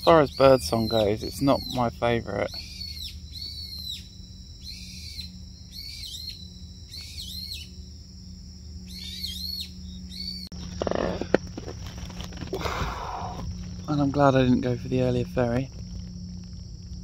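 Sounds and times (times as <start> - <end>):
bird calling: 0.0 - 7.9, 8.8 - 16.6
low hum: 0.0 - 17.0.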